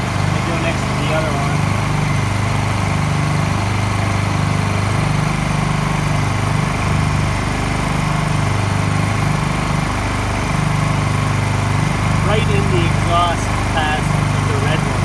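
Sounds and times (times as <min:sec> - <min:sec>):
generator engines humming: 0:00.0 - 0:15.0.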